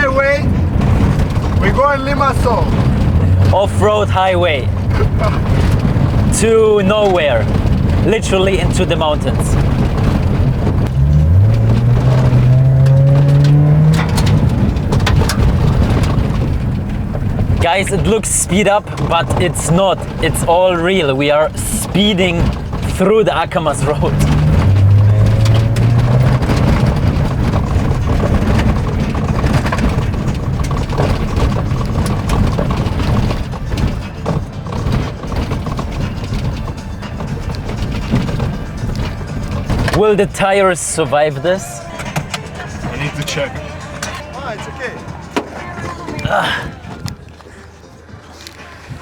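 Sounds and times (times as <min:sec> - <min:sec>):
car engine accelerating: 0:00.0 - 0:49.0
road and tyre noise: 0:00.0 - 0:49.0.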